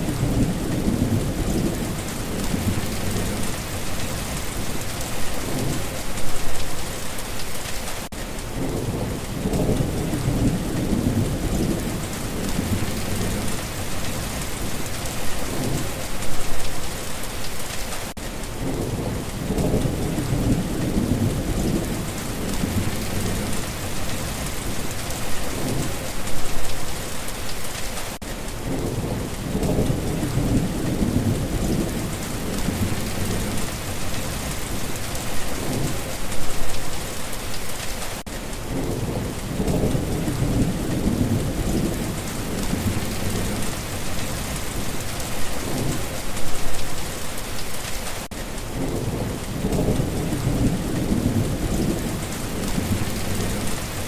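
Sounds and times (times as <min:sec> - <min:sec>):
rolling thunder rumble: 0:00.0 - 0:06.5, 0:08.5 - 0:16.5, 0:18.6 - 0:26.3, 0:28.6 - 0:36.7, 0:38.6 - 0:46.7, 0:48.7 - 0:54.0
heavy rain hissing: 0:00.0 - 0:54.0.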